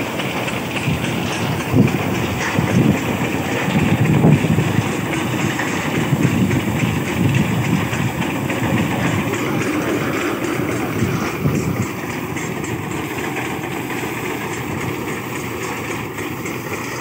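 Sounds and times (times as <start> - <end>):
farm thresher running: 0.0 - 17.0.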